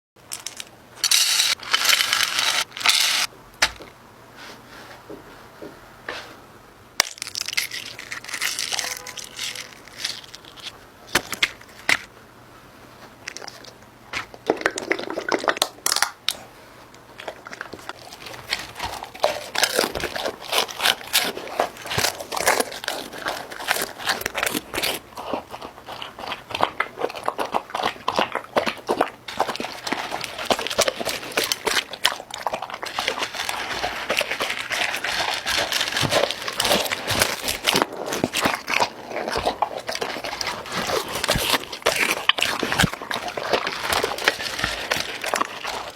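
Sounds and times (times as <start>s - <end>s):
crinkling and crunching crackles: 0.2s - 3.9s, 7.0s - 12.2s, 12.8s - 45.9s.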